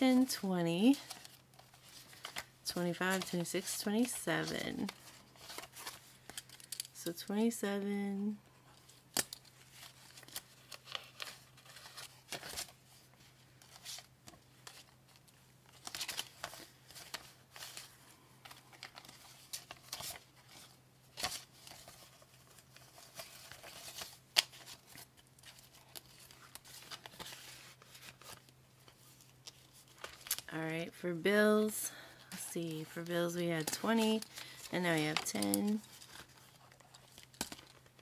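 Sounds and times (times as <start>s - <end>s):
banknotes rustling and crinkling: 0.0s - 7.8s, 8.6s - 38.0s.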